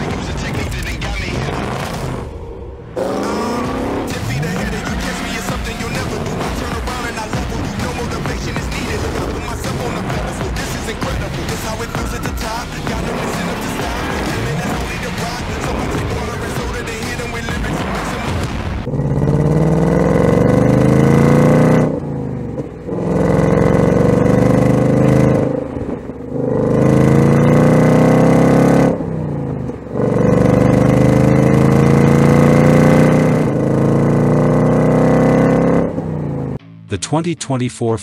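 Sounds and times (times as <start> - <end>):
car engine accelerating hard: 0.0 - 36.9.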